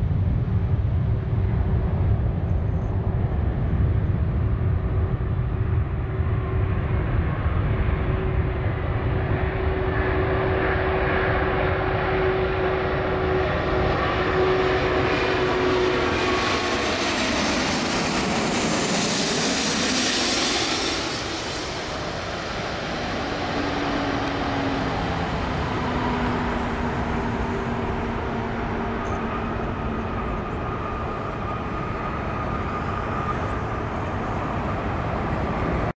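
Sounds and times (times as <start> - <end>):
distant jet noise: 0.0 - 35.9
freeway traffic: 0.0 - 35.9
jet plane passing overhead: 0.0 - 36.0.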